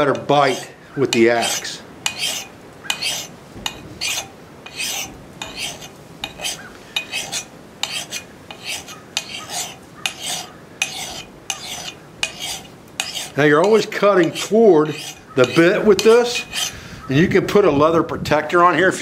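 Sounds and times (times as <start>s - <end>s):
file rasping on steel: 0.0s - 16.8s.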